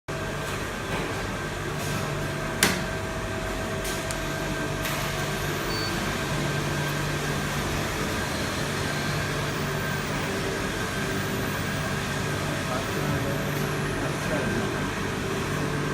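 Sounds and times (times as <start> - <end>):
machine hum: 0.1 - 15.9.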